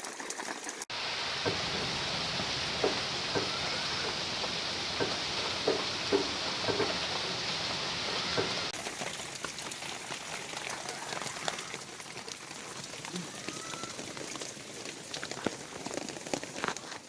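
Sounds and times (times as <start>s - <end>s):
steady rain: 0.0s - 17.0s
raindrop ticks: 0.3s - 17.0s.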